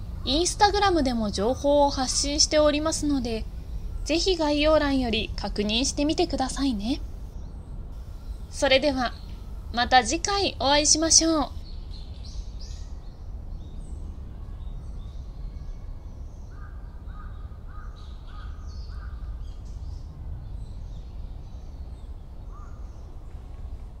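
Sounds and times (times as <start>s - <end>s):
small birds chirping: 0.0s - 23.8s
low rumble: 0.0s - 24.0s.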